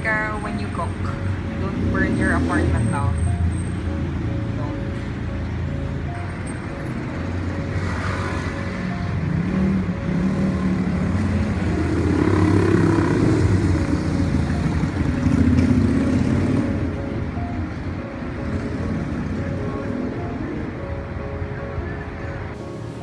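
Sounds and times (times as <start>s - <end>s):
vehicle engines passing: 0.0s - 23.0s.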